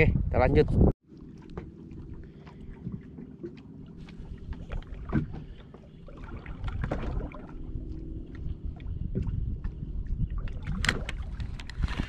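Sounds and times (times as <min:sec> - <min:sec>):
wind buffeting microphone: 0:00.0 - 0:12.0
boat low hum: 0:00.8 - 0:12.0.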